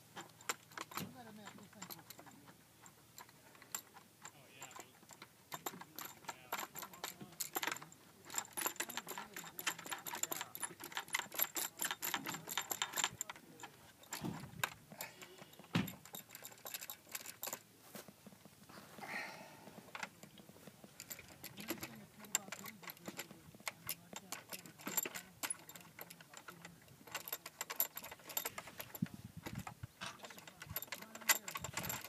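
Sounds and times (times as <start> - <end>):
small metal hardware clicking: 0.2 - 17.6, 19.9 - 32.0.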